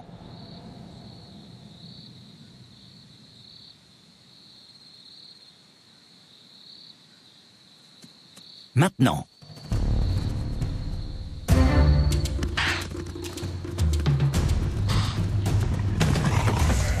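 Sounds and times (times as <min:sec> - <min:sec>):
crickets trilling: 0:00.0 - 0:13.7.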